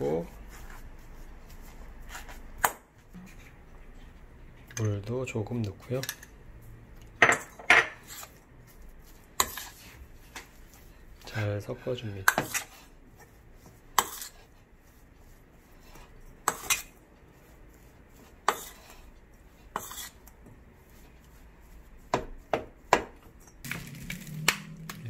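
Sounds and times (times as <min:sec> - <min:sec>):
spoon mixing mashed potato: 0:00.0 - 0:25.0.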